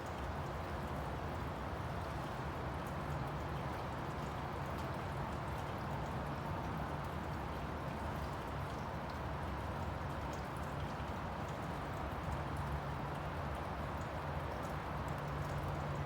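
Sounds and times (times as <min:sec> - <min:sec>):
faint drip ticks: 0:00.0 - 0:16.0.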